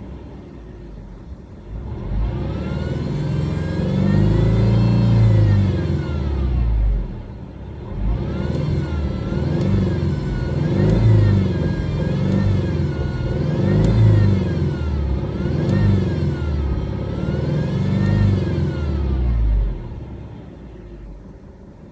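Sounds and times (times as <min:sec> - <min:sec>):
engine revving: 0:01.7 - 0:21.1.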